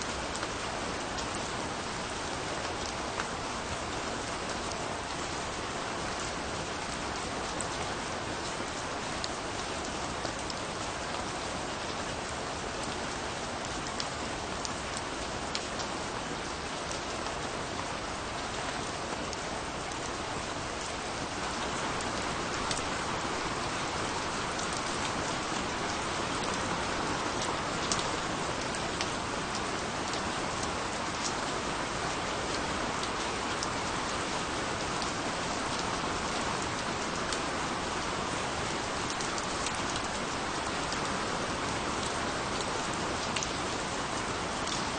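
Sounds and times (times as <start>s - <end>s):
steady rain falling: 0.0s - 44.9s
raindrops ticking on a surface: 0.1s - 44.9s.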